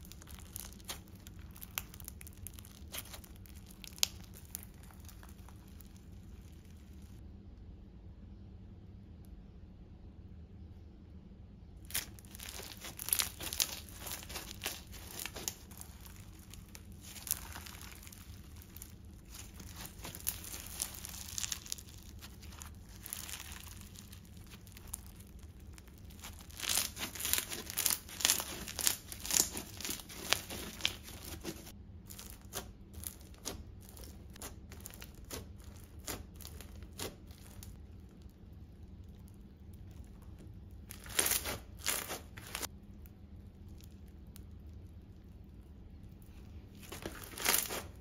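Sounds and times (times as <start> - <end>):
crunchy slime being squeezed: 0.0 - 7.2, 11.8 - 48.0.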